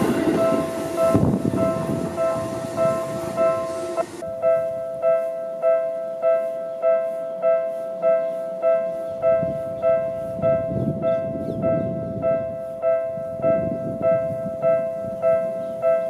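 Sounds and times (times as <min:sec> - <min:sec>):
low train rumble: 0:00.0 - 0:16.0
passing train noise: 0:00.0 - 0:16.0.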